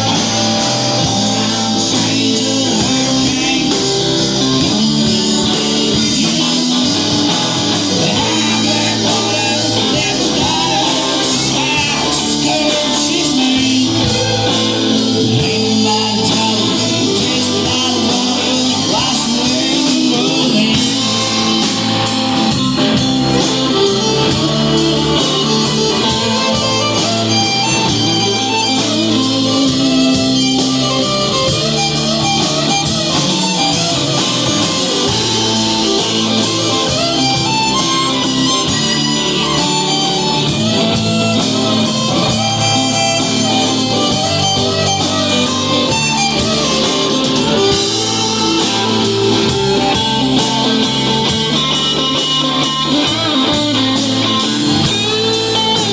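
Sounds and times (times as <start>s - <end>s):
bass: 0.0s - 55.9s
guitar melody: 0.0s - 55.9s
steady drum beat: 0.0s - 55.9s.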